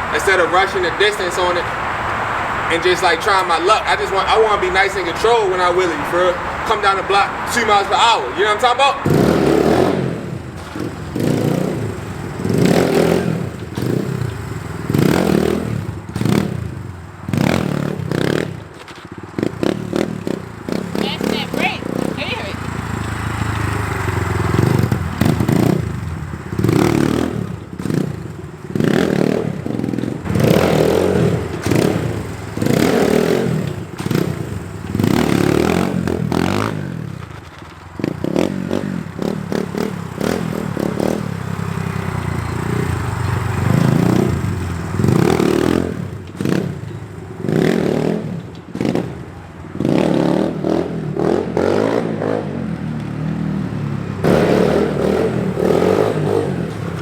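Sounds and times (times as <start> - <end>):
dirt bike engine revving: 0.0 - 49.2, 49.8 - 57.0.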